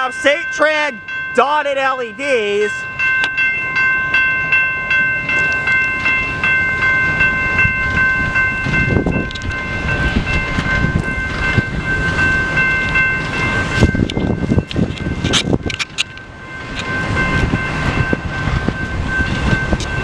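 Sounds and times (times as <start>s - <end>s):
railroad crossing bell ringing: 0.0s - 20.0s.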